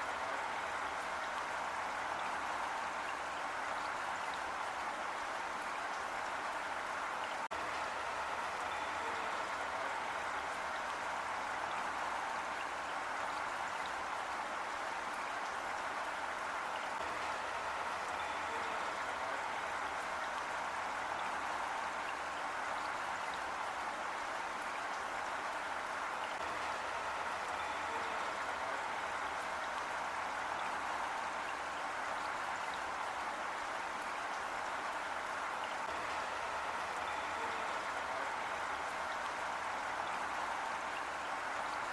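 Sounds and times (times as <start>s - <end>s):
heavy rain falling: 0.0s - 13.4s, 14.3s - 41.9s.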